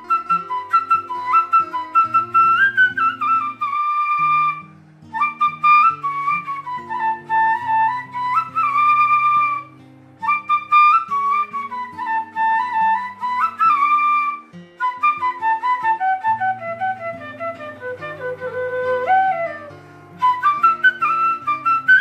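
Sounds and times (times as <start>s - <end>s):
bamboo flute melody: 0.0s - 22.0s.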